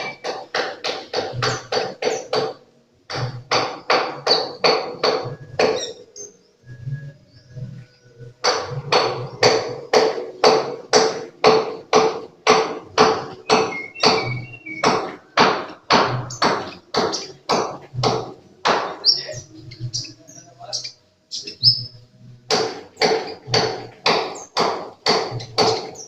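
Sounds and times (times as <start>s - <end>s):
sharp ringing tapping knocks: 0.0s - 6.3s, 8.4s - 20.1s, 22.5s - 26.0s.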